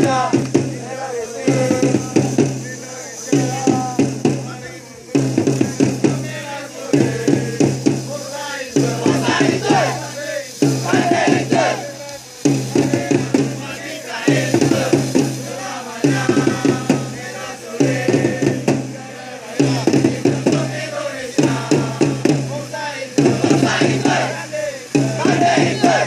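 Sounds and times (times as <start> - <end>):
crowd chanting in unison: 0.0 - 26.0
drum beating: 0.0 - 26.0.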